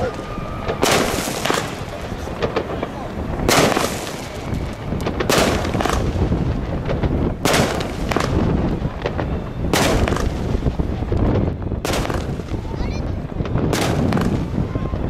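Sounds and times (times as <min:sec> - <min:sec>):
firework shells bursting overhead: 0:00.0 - 0:15.0.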